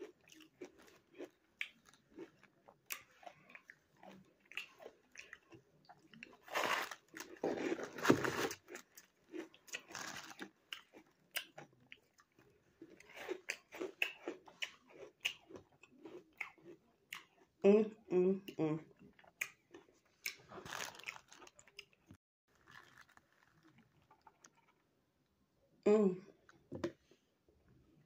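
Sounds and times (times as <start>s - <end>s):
chewing crunchy ice: 0.0s - 17.6s, 19.0s - 24.8s.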